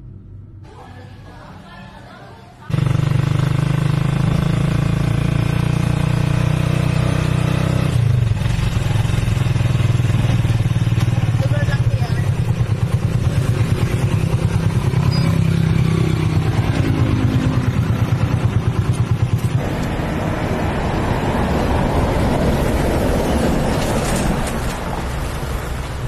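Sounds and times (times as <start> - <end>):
motor engine running: 2.7 - 26.0.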